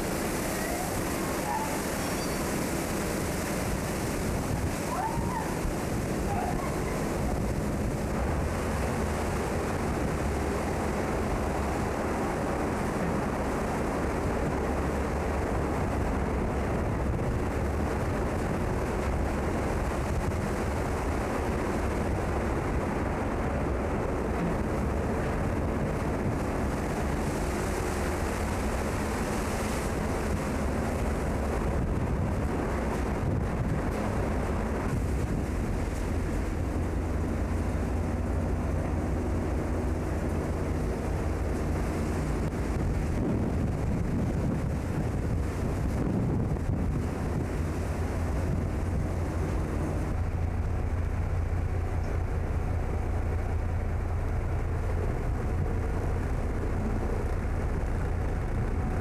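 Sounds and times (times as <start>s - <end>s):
waves washing along ship hull: 0.0s - 59.0s
wind buffeting microphone: 0.0s - 59.0s.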